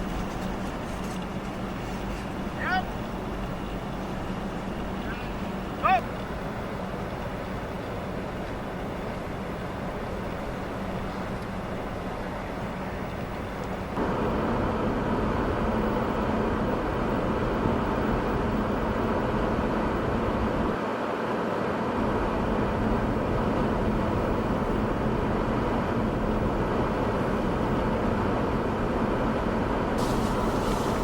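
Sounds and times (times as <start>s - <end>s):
vehicle noise rumbling hiss: 0.0s - 31.0s
wind: 0.0s - 31.0s.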